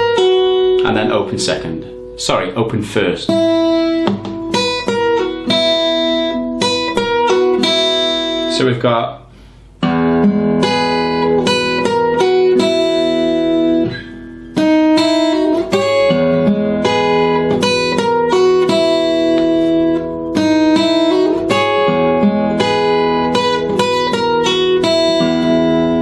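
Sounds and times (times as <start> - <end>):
fingerstyle acoustic guitar: 0.0 - 2.2, 3.3 - 8.6, 9.5 - 26.0.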